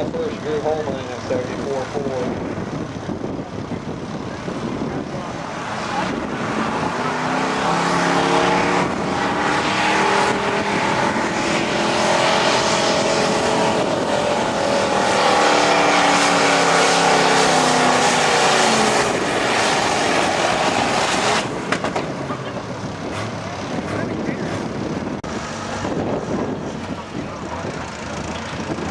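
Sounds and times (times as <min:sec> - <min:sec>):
truck engine at full throttle: 0:00.0 - 0:28.9.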